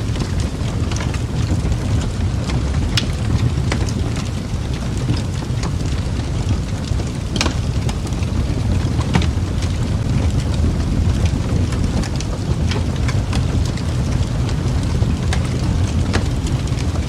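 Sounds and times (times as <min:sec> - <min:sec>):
wood fire crackling: 0:00.0 - 0:17.0
pops and snaps of burning logs: 0:00.1 - 0:17.0.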